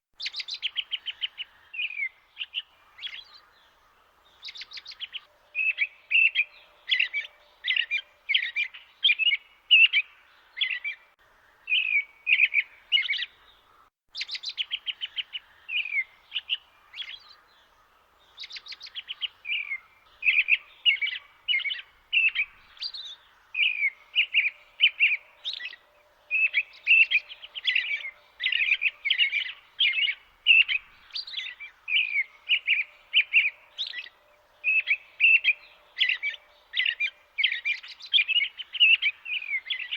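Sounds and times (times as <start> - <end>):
songbirds chirping and singing: 0.2 - 39.9.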